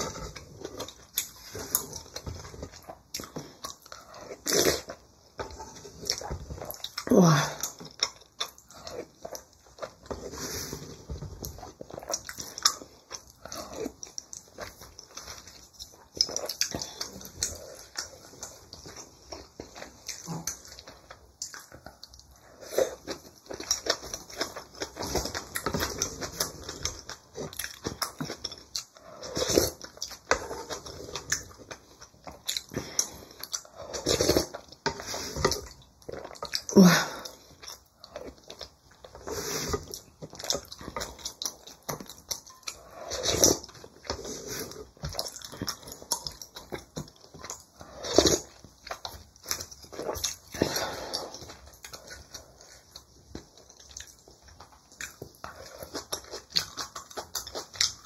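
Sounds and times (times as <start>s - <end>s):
chewing and slurping: 0.0s - 58.0s.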